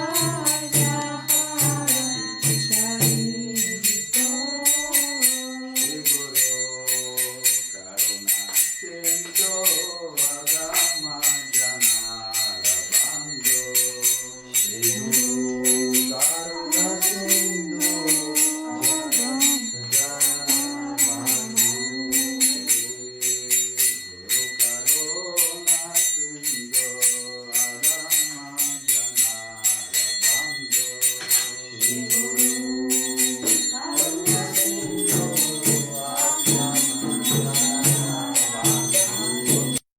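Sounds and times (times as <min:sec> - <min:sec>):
hand cymbals ringing: 0:00.0 - 0:39.8
person chanting melodically: 0:00.0 - 0:39.8.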